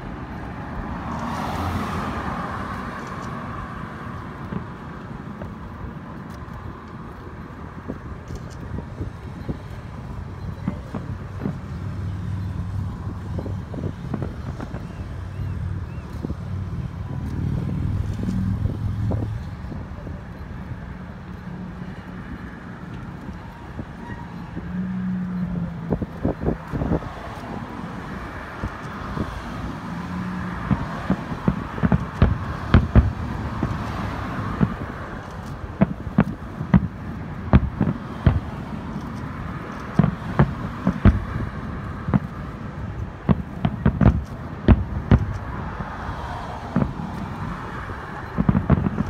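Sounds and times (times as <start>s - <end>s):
road traffic hum: 0.0s - 49.0s
fireworks bangs: 3.0s - 6.6s, 7.2s - 46.0s, 46.6s - 49.0s.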